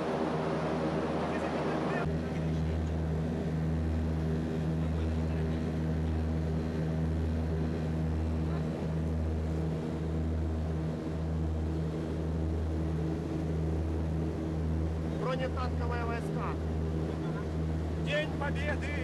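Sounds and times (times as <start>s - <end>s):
airplane engine drone in cabin: 0.0s - 19.0s.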